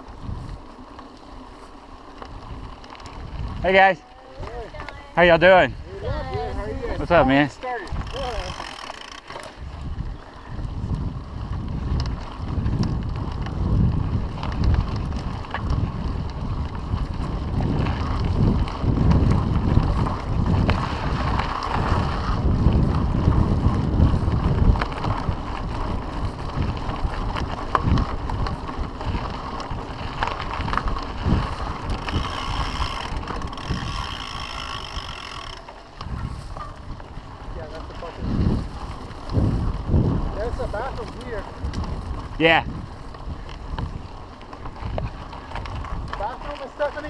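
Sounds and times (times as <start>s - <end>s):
wind buffeting microphone: 0.0s - 0.8s, 2.1s - 47.0s
bike rattling and clicking: 0.0s - 47.0s
bike tyres rumbling on dirt trail: 0.0s - 47.0s.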